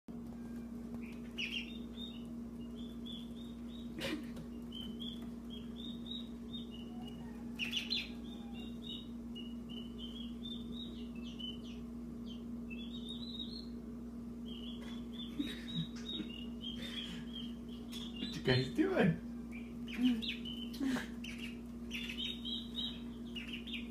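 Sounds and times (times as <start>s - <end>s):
steady low hum: 0.1s - 23.9s
turkey poults peeping: 0.2s - 13.8s, 14.4s - 23.9s.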